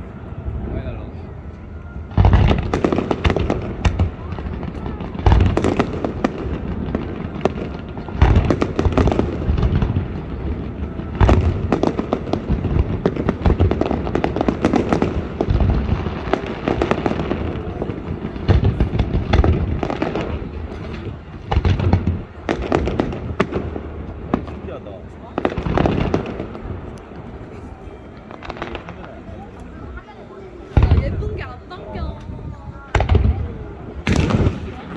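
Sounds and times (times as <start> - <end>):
fireworks booming: 1.8 - 30.0, 30.7 - 34.9
fireworks crackling and popping: 2.1 - 30.1, 30.7 - 34.9.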